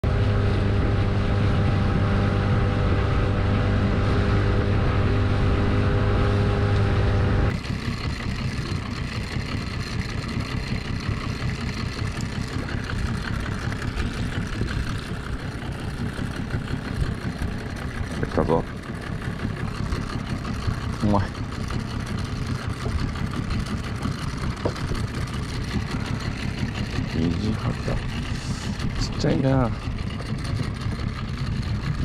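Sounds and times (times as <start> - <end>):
outboard motor running: 0.0 - 32.0.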